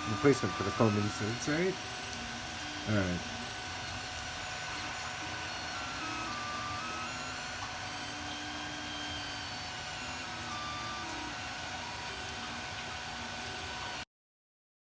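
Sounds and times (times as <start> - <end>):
fan hum: 0.0 - 14.0
stepper motors whining: 0.0 - 14.0.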